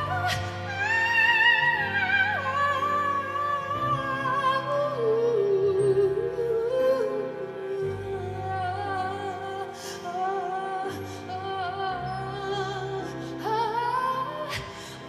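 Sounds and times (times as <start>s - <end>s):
woman singing wordless melody: 0.0s - 15.0s.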